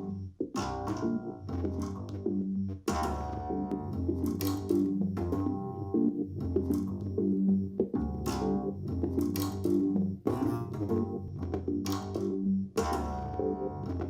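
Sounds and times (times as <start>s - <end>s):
guitar and bass music from speaker: 0.0s - 14.0s.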